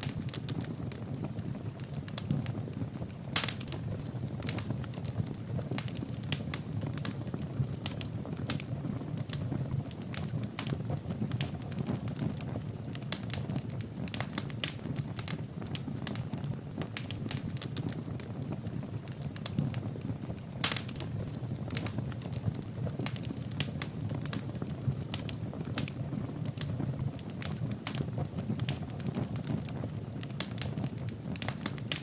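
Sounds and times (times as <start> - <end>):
burning logs crackling and popping: 0.0 - 32.0
flames rushing: 0.0 - 32.0.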